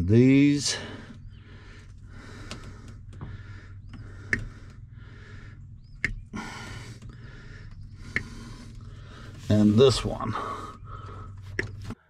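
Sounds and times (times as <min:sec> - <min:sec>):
heavy breathing: 0:00.6 - 0:12.0.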